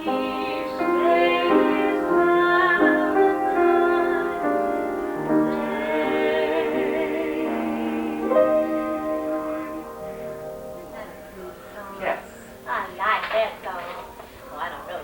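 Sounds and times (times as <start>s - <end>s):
song on television: 0.0s - 14.4s.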